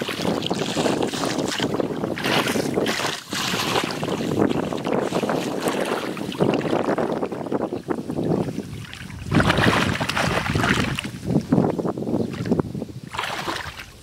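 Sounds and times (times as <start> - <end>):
shallow water sloshing: 0.0 - 14.0.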